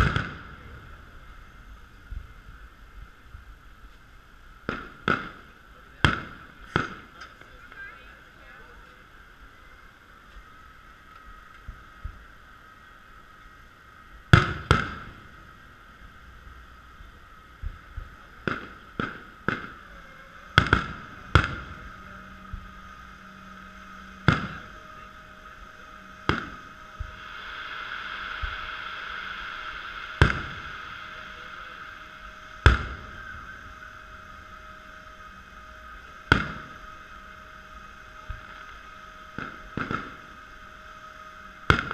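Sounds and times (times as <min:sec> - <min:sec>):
fireworks shells bursting: 0:00.0 - 0:02.4, 0:03.8 - 0:08.6, 0:14.3 - 0:40.8, 0:41.4 - 0:41.9
steady hiss: 0:00.0 - 0:41.9.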